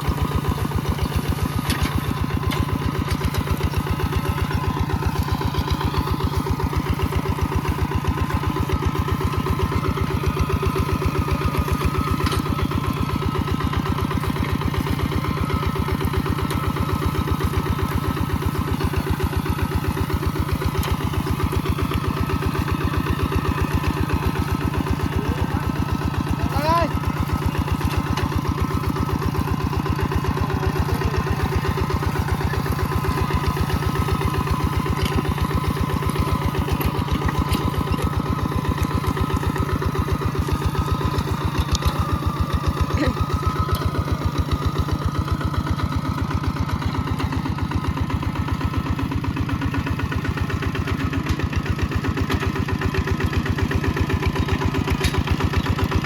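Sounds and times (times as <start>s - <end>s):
mini tractor engine running: 0.0s - 56.0s.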